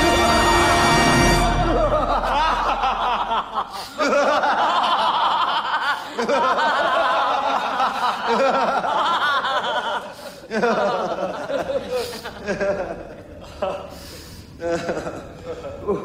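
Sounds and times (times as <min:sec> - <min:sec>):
group of people laughing: 0:01.4 - 0:16.0.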